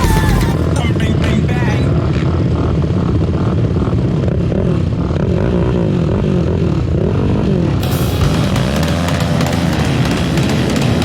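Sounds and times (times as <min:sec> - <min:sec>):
atv engines revving: 0:00.0 - 0:11.0.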